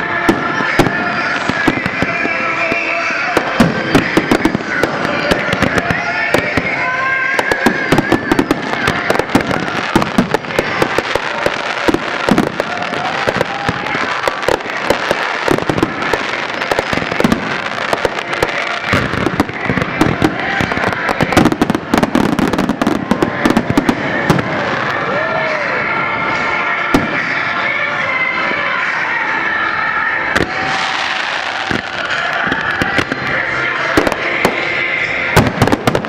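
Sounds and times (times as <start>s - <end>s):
fireworks bursting and crackling: 0.0s - 36.0s.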